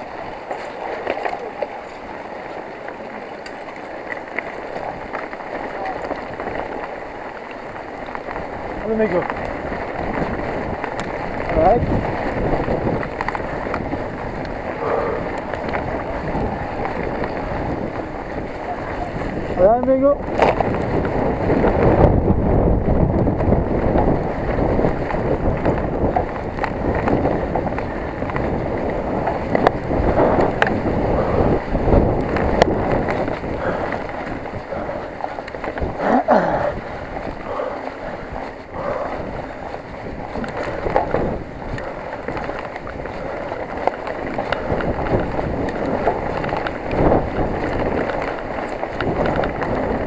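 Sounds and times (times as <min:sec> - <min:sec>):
tyre noise rushing: 0:00.0 - 0:50.0
wind buffeting microphone: 0:00.0 - 0:50.0
bike knocks and rattles: 0:03.6 - 0:38.6, 0:39.2 - 0:50.0.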